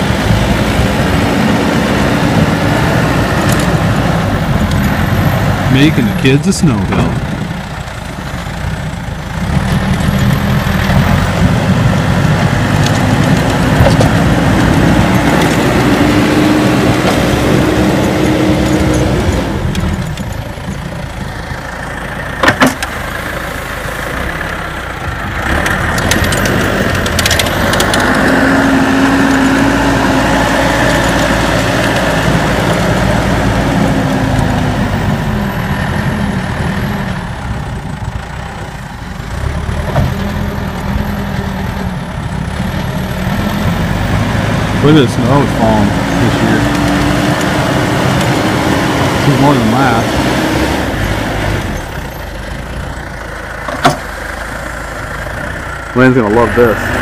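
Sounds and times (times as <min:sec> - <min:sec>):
diesel engine working: 0:00.0 - 0:57.0
engine whine: 0:00.0 - 0:57.0.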